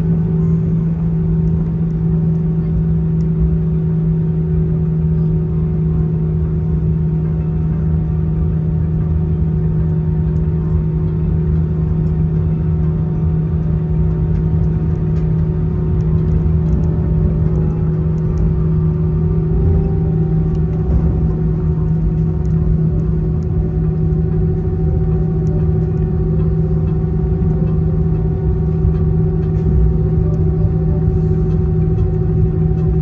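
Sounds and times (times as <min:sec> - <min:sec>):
aircraft cabin engine drone: 0:00.0 - 0:33.0.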